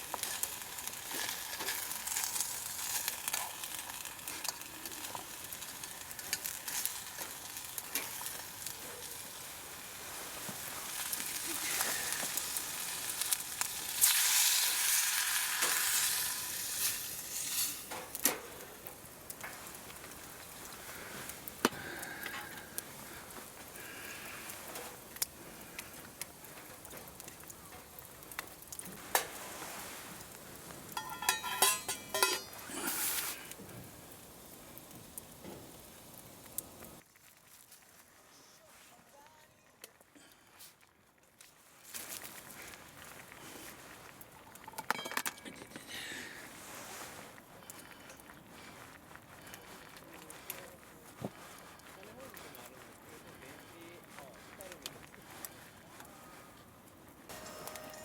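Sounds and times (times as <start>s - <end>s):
food sizzling in a pan: 0.0s - 38.0s, 41.7s - 50.0s, 57.3s - 58.0s.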